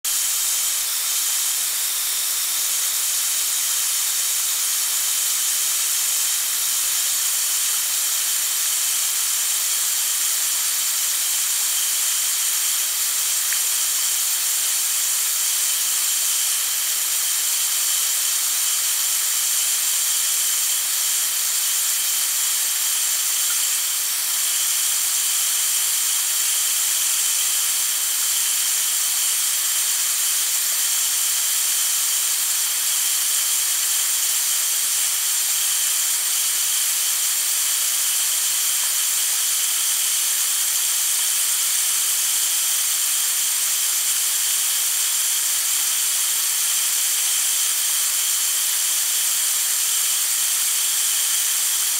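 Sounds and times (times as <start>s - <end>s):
water spraying with high hiss: 0.1s - 51.9s.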